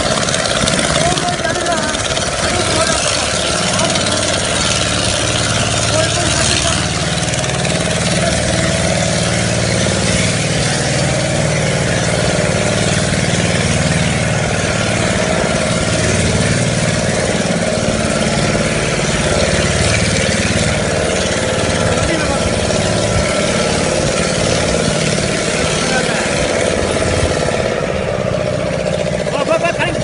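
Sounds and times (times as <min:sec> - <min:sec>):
motorboat engine humming: 0:00.0 - 0:30.0.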